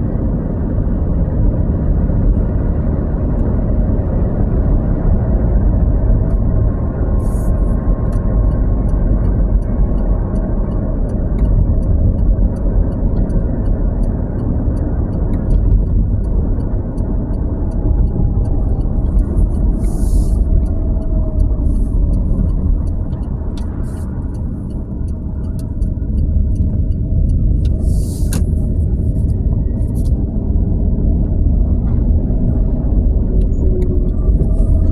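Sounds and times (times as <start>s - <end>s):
truck engine and road rumble: 0.0s - 34.9s.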